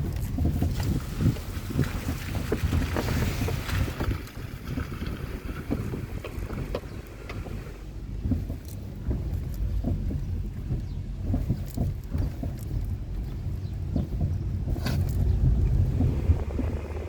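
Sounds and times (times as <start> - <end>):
road and wind rumble: 0.0 - 17.0
suspension knocking: 0.0 - 17.0.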